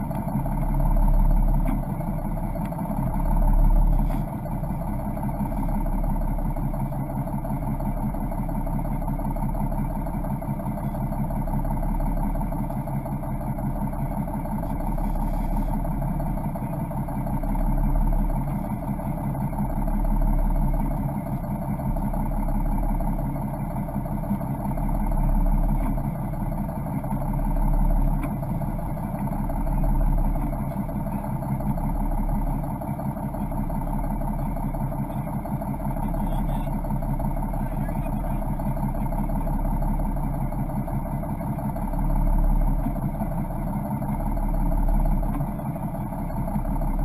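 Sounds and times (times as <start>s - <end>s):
boat engine running at low speed: 0.0s - 47.0s.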